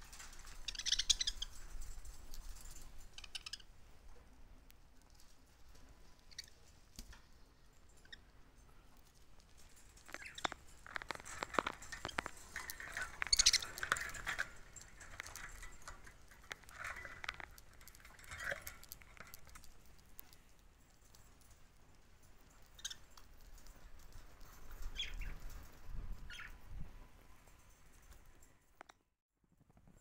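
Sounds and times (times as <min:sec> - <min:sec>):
budgerigars pecking and crunching seed: 0:00.0 - 0:03.8, 0:04.8 - 0:26.6.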